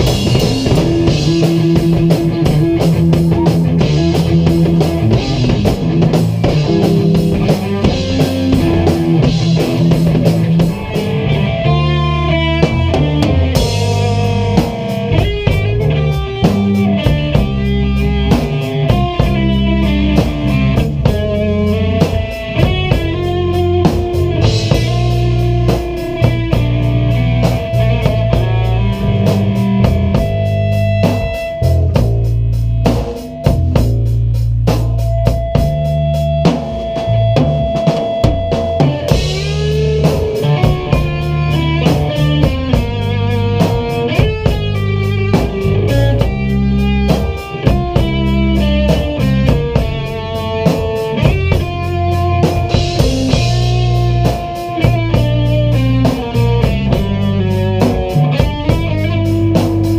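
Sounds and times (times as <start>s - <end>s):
drum kit: 0.0s - 59.9s
electric guitars playing: 0.0s - 59.9s.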